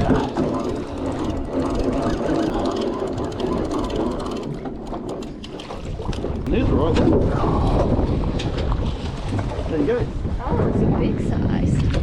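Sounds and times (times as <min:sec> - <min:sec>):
boat engine droning: 0:00.0 - 0:11.6.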